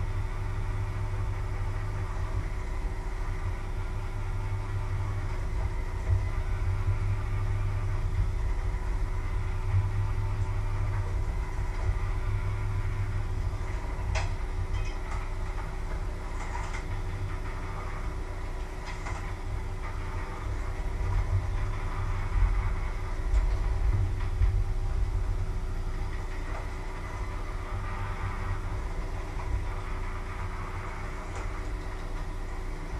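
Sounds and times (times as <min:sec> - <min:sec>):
kitchen machinery humming: 0:00.0 - 0:32.9.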